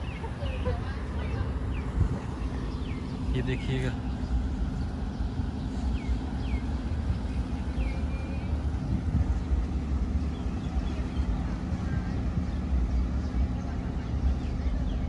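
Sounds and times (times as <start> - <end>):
engine-like drone: 0.0 - 15.0
low rumble: 0.0 - 15.0.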